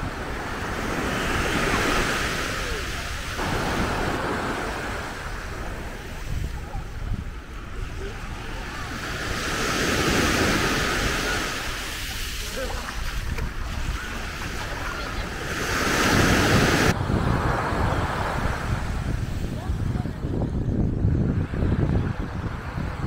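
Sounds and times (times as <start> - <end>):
small waves breaking on shore: 0.0 - 19.7
wind rumble on microphone: 0.0 - 23.0.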